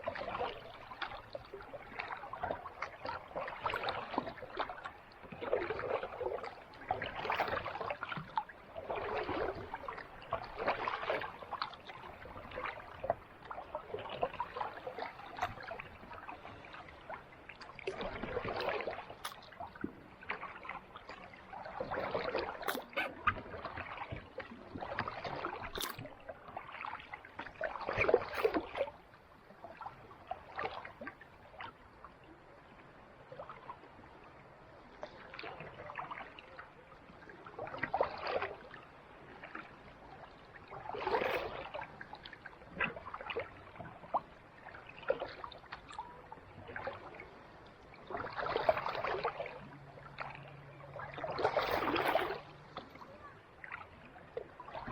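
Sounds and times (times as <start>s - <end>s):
faint water sounds: 0.0s - 54.9s
kayak paddle splashing: 0.0s - 54.9s.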